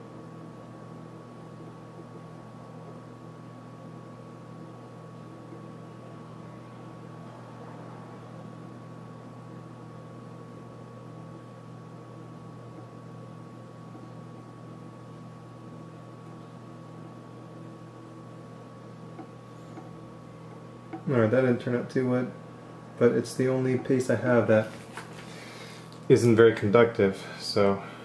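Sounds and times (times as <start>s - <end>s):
background hum: 0.0s - 28.0s.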